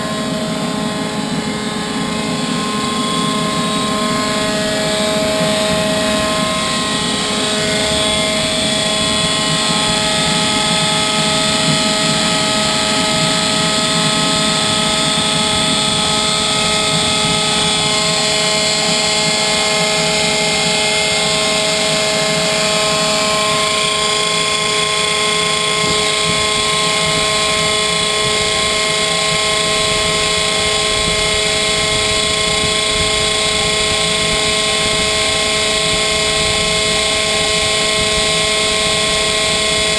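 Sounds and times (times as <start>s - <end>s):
gas turbine running: 0.0s - 39.9s
steady whining tones: 0.0s - 39.9s.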